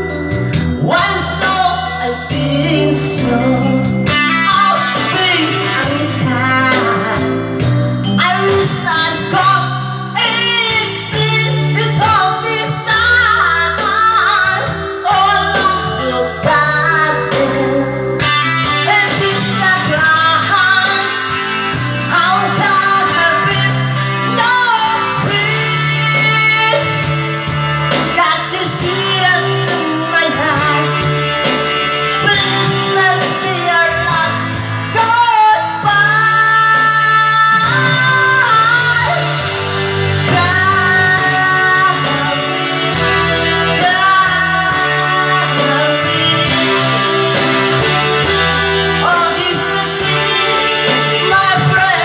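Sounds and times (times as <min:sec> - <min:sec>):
backing music with bass line: 0:00.0 - 0:52.0
man singing into microphone: 0:00.8 - 0:21.4, 0:22.0 - 0:27.1, 0:32.2 - 0:47.3, 0:48.8 - 0:52.0.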